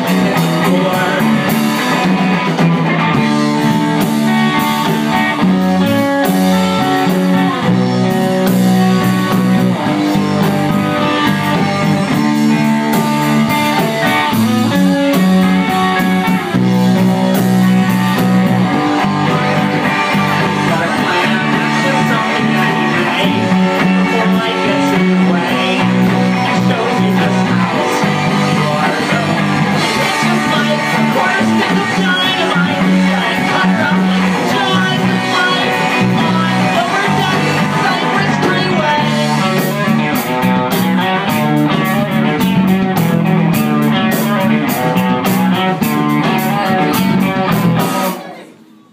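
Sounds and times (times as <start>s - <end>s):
electric bass: 0.0s - 48.2s
drum kit: 0.0s - 48.4s
electric guitar: 0.0s - 48.9s.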